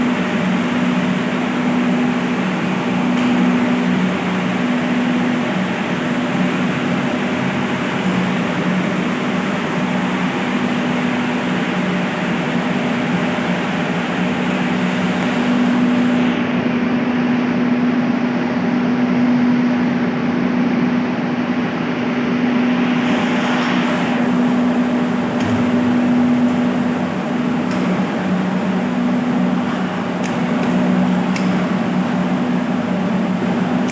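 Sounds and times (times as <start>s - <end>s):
electric water pumps humming: 0.0s - 17.9s, 21.2s - 33.9s.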